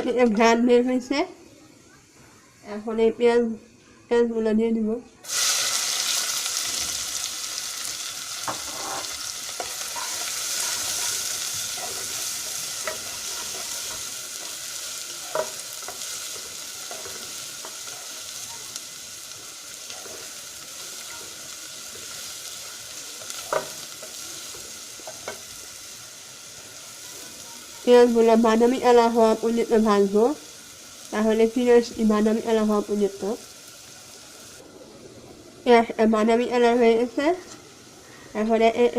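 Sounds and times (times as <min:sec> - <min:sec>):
onions sizzling in oil: 0:05.2 - 0:34.7, 0:35.6 - 0:38.9.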